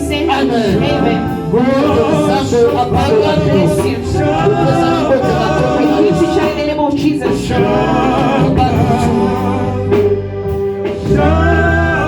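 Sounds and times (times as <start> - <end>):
bass and drums: 0.0 - 12.0
gospel singing: 0.0 - 12.0.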